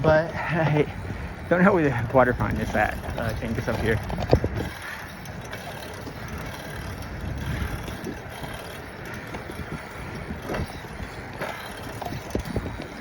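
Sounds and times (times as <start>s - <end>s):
bicycle tyre noise: 0.0s - 13.0s
wind rumble on microphone: 0.0s - 13.0s.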